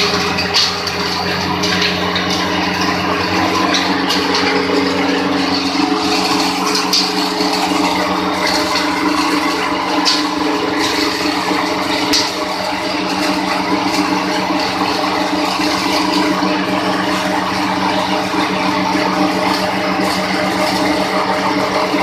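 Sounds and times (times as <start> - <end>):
electric motor humming: 0.0 - 22.0.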